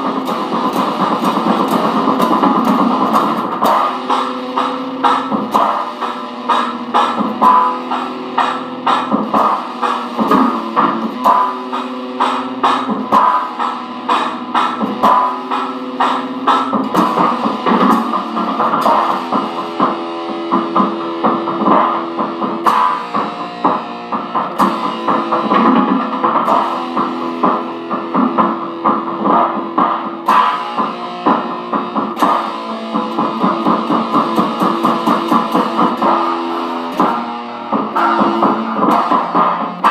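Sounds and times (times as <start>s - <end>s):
electric guitar single notes: 0.0s - 39.9s.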